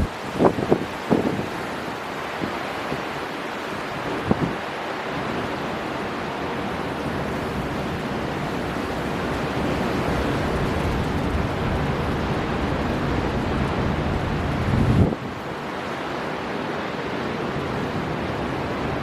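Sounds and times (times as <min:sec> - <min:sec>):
surf breaking: 0:00.0 - 0:18.4
storm wind blowing: 0:00.0 - 0:19.0.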